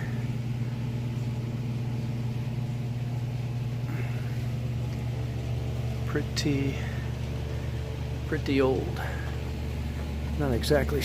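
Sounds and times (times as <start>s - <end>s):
mechanical equipment humming: 0.0s - 11.0s.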